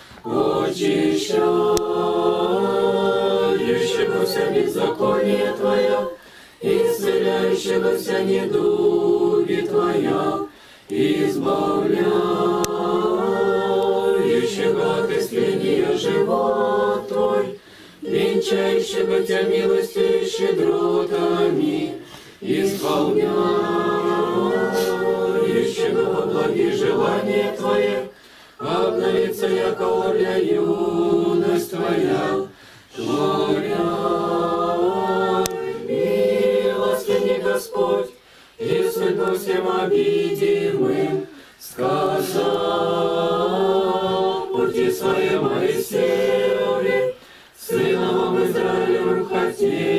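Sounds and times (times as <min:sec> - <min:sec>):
choir chanting unaccompanied: 0:00.0 - 0:49.9.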